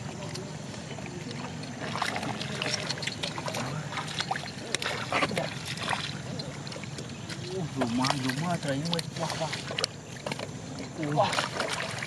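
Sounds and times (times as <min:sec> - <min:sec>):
splashing in muddy water: 0:00.0 - 0:12.0.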